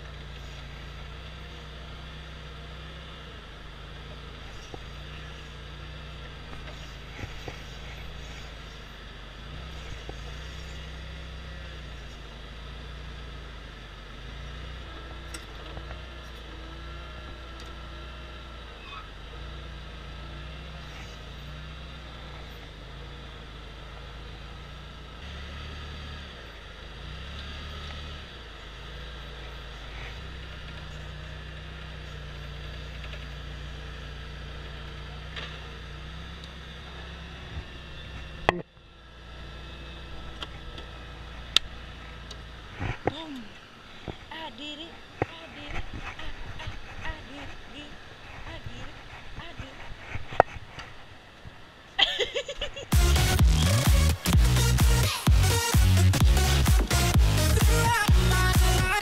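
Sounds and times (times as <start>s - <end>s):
forklift motor hum: 0.0s - 52.0s, 52.8s - 59.0s.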